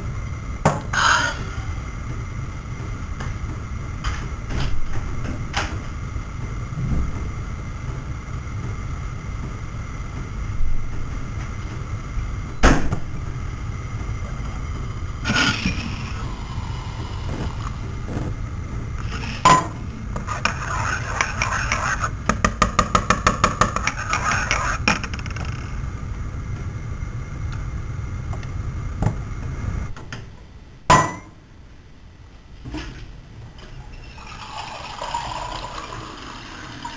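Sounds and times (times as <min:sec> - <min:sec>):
low hum: 0:00.0 - 0:36.9.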